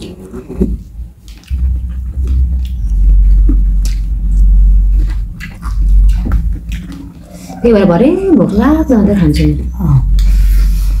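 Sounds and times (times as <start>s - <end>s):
mouth chewing: 0.0s - 11.0s
loud low rumble: 1.4s - 11.0s.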